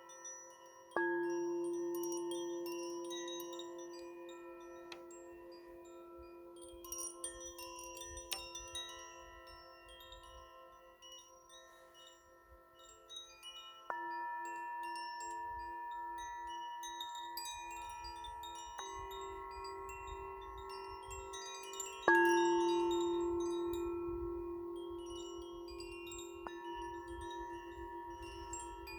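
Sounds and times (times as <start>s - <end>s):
wind chimes tinkling: 0.0s - 28.9s.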